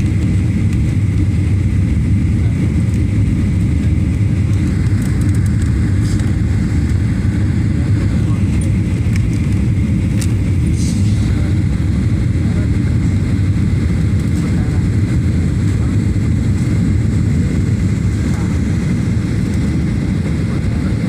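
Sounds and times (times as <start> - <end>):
jet engine rumble in cabin: 0.0 - 21.0.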